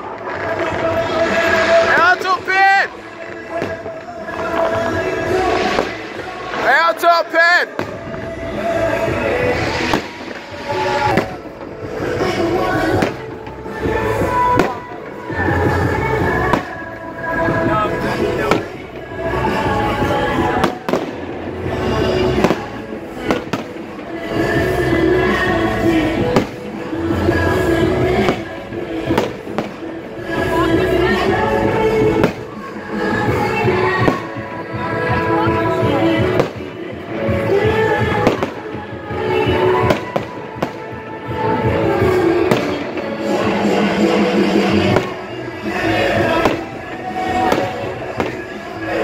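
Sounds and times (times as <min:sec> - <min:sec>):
din of voices: 0:00.0 - 0:49.0
fireworks bangs: 0:00.0 - 0:49.0
steady music: 0:00.0 - 0:49.0.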